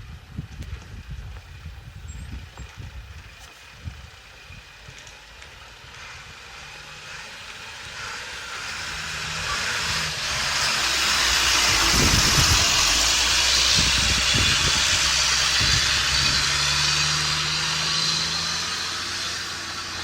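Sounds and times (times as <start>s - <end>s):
diesel truck engine rumble: 0.0s - 20.0s.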